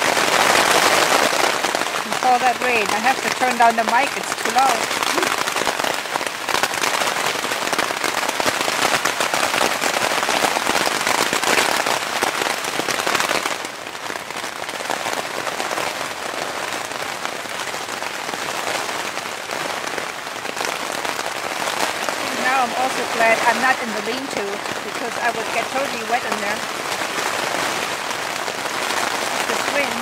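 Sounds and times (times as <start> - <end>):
heavy rain on tent fabric: 0.0 - 30.0.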